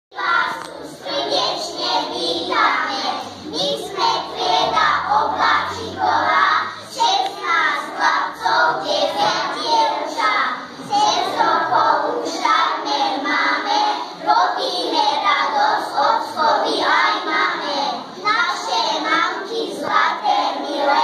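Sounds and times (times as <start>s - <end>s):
children singing: 0.1s - 21.0s.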